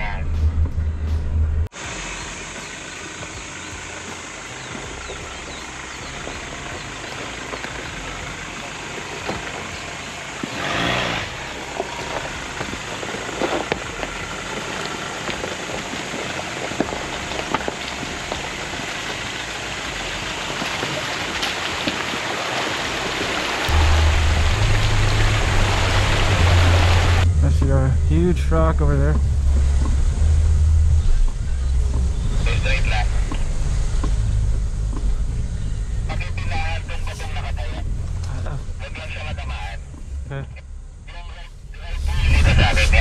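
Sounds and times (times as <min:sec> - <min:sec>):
vehicle driving on rough trail: 0:00.0 - 0:43.0.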